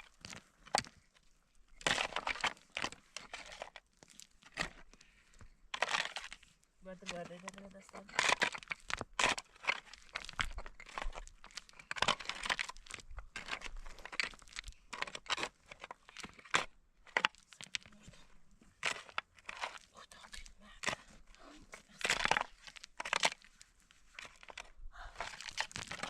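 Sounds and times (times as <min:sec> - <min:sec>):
crunching and rustling: 0:00.0 - 0:26.0.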